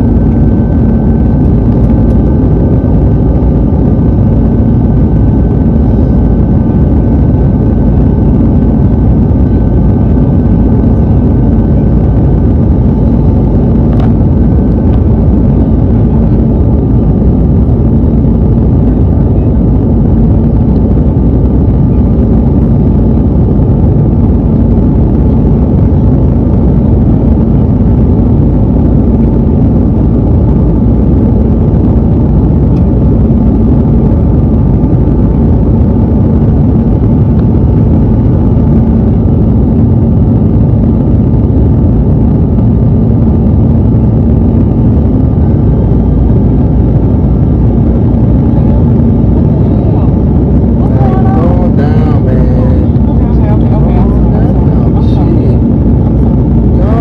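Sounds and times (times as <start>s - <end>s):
jet cabin engine and airflow rush: 0.0s - 57.0s
low steady hum: 0.0s - 57.0s.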